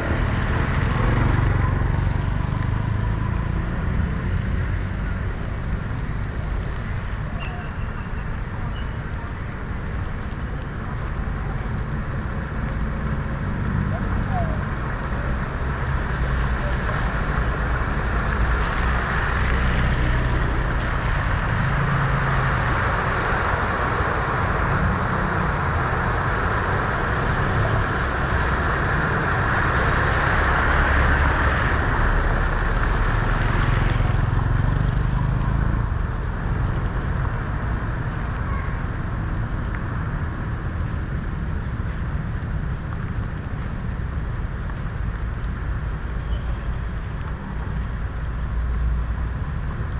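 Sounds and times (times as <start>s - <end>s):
water rushing and splashing: 0.0s - 49.9s.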